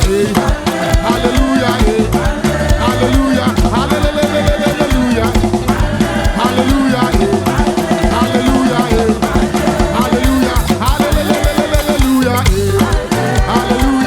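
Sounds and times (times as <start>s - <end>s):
drum kit beat: 0.0s - 14.0s
heavy bass line: 0.0s - 14.0s
upbeat gospel praise music: 0.0s - 14.0s.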